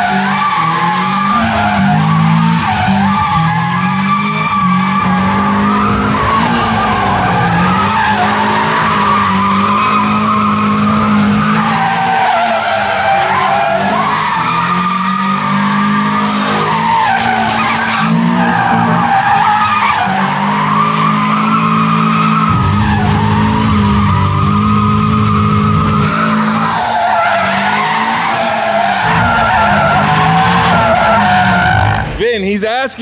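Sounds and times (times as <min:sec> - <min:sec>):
car engine running hard: 0:00.0 - 0:32.1
tire squeal: 0:00.0 - 0:32.2.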